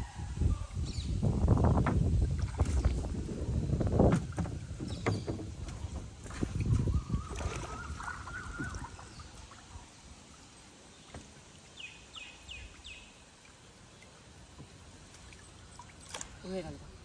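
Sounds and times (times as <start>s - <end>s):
water splashing against canoe: 1.6s - 17.0s
water lapping: 2.2s - 17.0s.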